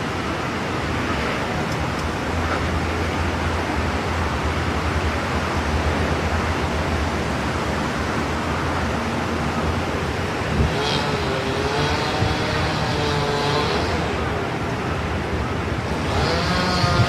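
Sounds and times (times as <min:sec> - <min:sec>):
street traffic: 0:00.0 - 0:17.0
wind and rain rushing: 0:00.0 - 0:17.0.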